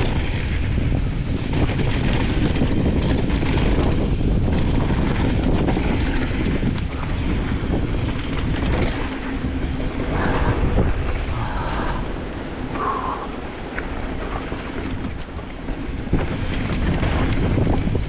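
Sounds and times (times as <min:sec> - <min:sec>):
bike rattling over bumps: 0:00.0 - 0:18.0
bike tyre rumble on dirt: 0:00.0 - 0:18.0
wind buffeting microphone: 0:00.0 - 0:18.0.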